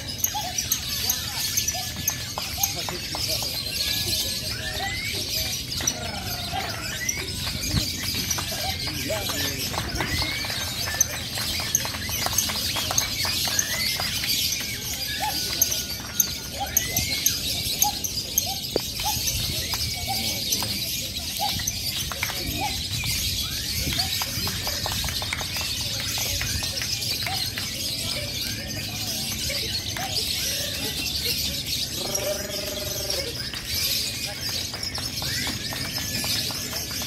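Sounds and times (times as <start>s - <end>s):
birds chattering: 0.0s - 37.0s
people's voices: 0.0s - 37.0s.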